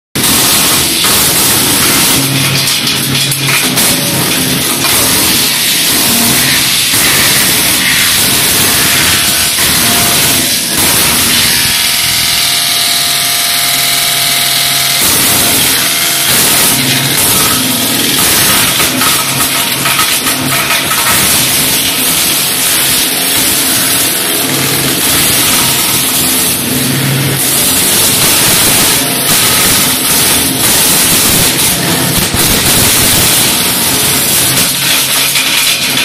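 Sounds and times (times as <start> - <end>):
wood chipper running: 0.2 - 36.0.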